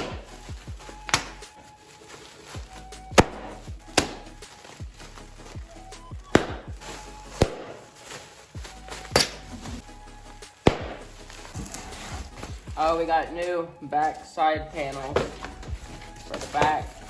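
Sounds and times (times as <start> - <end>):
low steady music backing: 0.0 - 17.0.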